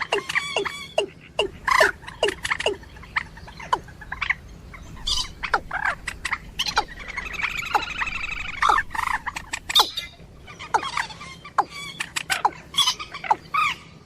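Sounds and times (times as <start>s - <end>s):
fast rattling bird call: 0.0s - 14.0s
moorhen harsh calls: 0.0s - 14.0s.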